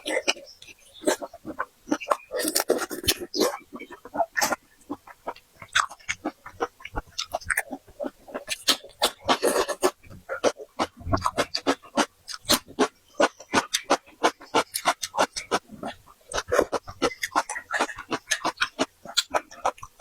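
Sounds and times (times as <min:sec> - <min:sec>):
wet chewing and lip-smacking: 0:00.0 - 0:20.0.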